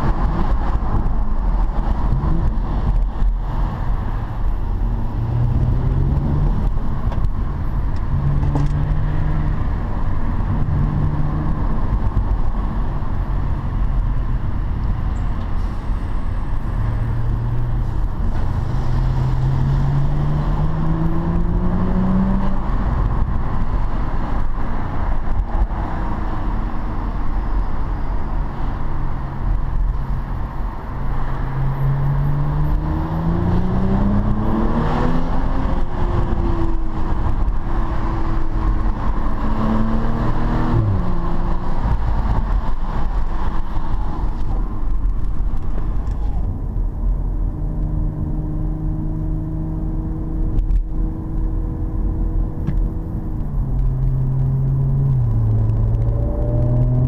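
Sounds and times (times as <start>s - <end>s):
car engine accelerating through gears: 0.0s - 14.1s, 15.5s - 57.0s
road and tyre noise: 0.0s - 57.0s.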